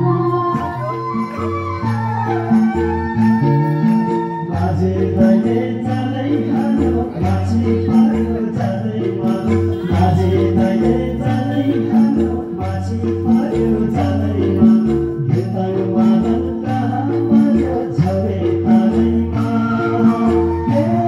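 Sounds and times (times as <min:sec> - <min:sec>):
loud dance music: 0:00.0 - 0:21.0.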